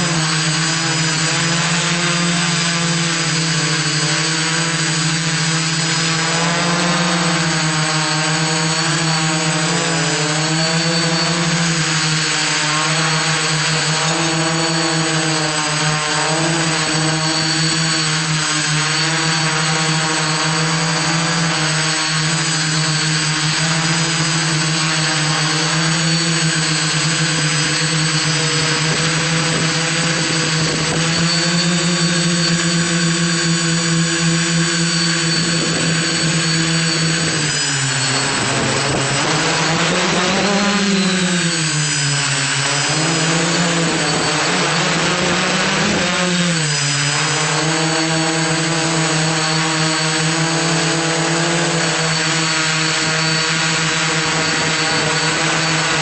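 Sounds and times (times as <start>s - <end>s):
drone buzzing hum: 0.0s - 56.0s.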